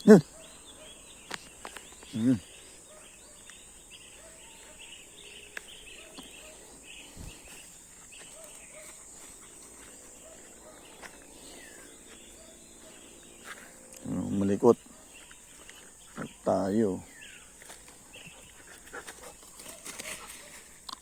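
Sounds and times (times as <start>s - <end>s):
high insect drone: 0.0s - 20.8s
small birds chirping: 0.0s - 21.0s.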